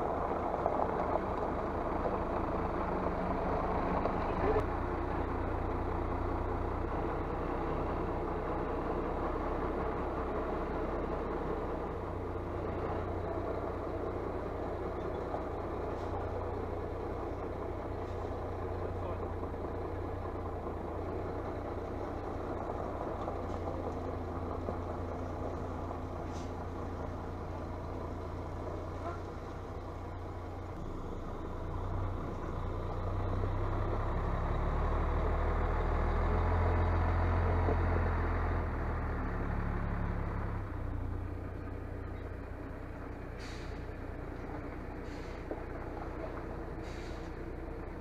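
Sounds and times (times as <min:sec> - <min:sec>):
diesel truck engine running: 0:00.0 - 0:48.0.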